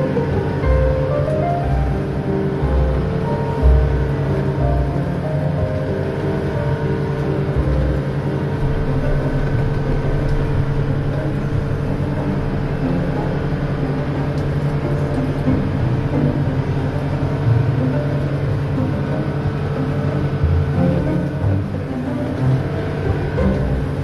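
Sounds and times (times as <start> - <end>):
boat engine droning: 0.0 - 24.0
water rushing along hull: 0.0 - 24.0.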